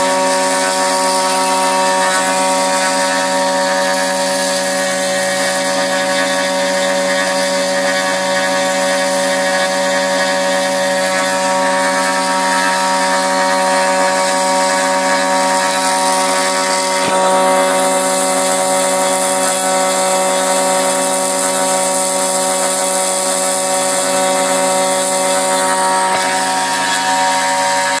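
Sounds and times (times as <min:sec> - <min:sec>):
hiss of metal cutting: 0:00.0 - 0:28.0
spindle whine: 0:00.0 - 0:28.0.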